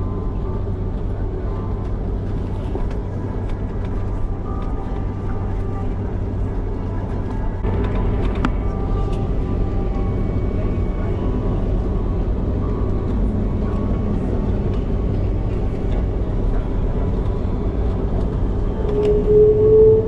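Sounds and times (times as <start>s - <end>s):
faint steady tones: 0.0s - 20.0s
vehicle rumble: 0.0s - 20.0s.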